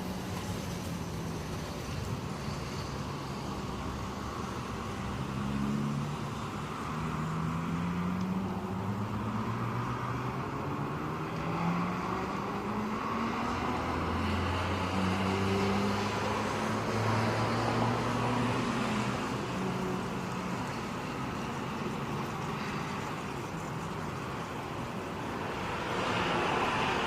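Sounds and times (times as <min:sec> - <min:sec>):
car engines passing: 0:00.0 - 0:27.0
steady traffic noise: 0:00.0 - 0:27.0.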